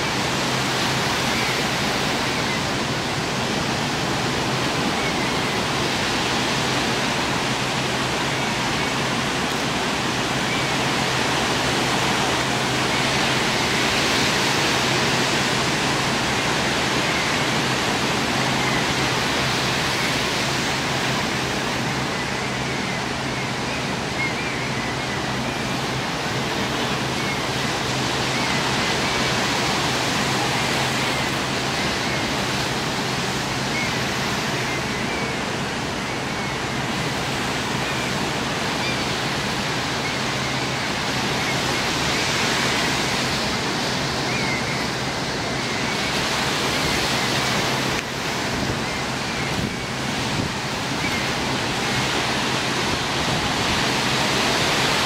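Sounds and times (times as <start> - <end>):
ocean surf rushing: 0.0 - 55.0.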